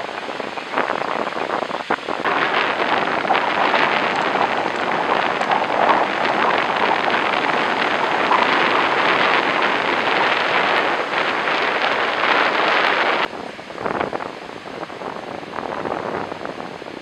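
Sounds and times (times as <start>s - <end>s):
heavy surf on beach: 0.0s - 17.0s
wind buffeting microphone: 0.0s - 17.0s.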